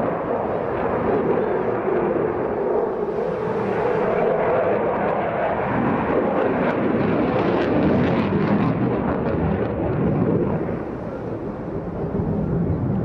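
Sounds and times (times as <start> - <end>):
jet engine roaring with crackle: 0.0 - 13.0.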